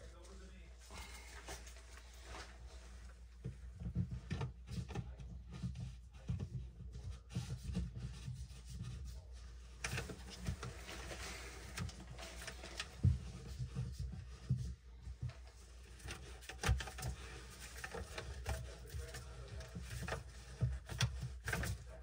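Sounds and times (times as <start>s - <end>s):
plastic drain part rubbing and clicking: 3.4s - 22.0s
scratchy rasp: 3.9s - 22.0s.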